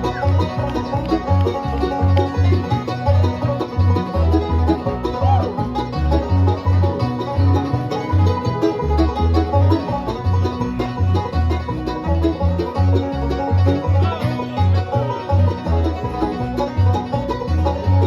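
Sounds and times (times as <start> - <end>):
bluegrass string band playing: 0.0 - 18.0.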